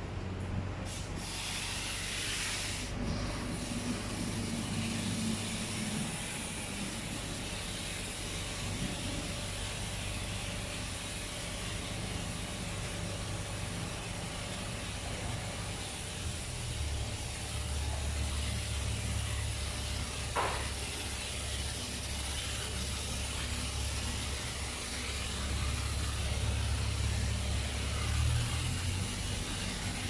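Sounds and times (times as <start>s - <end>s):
water spraying against car body: 0.8s - 30.0s.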